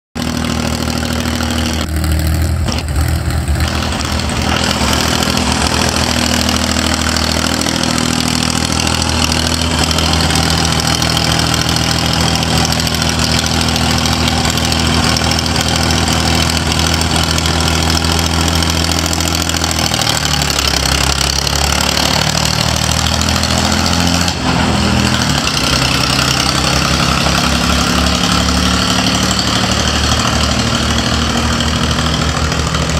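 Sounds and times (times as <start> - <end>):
tractor diesel engine running: 0.2 - 32.9.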